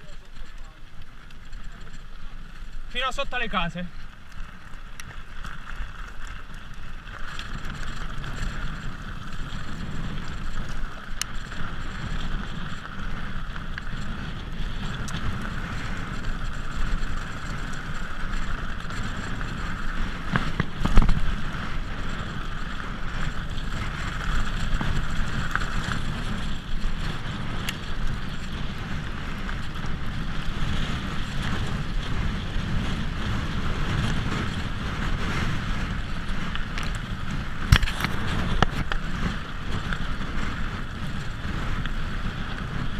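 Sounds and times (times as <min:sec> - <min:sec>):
bike jolt: 0:00.0 - 0:42.9
bike rattle: 0:00.0 - 0:42.9
bike tyre rumble on gravel: 0:00.0 - 0:42.9
wind on microphone: 0:00.0 - 0:42.9.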